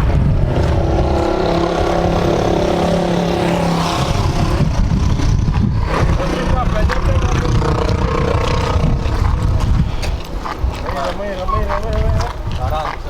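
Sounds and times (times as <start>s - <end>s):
boat engine running: 0.0s - 10.8s.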